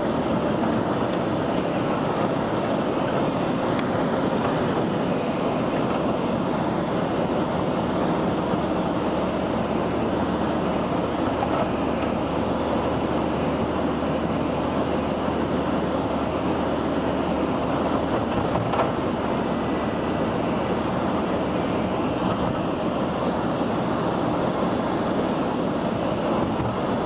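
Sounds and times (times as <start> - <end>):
road and engine noise inside vehicle: 0.0 - 27.0.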